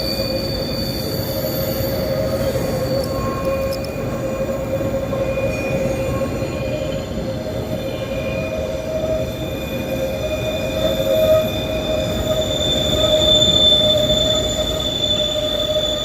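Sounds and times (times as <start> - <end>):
high-pitched wheel squeal: 0.0 - 16.0.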